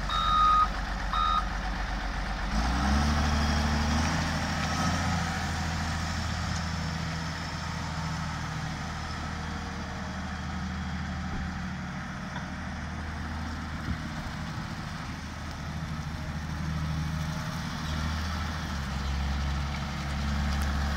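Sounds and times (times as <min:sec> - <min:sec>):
wheel loader diesel engine: 0:00.0 - 0:20.9.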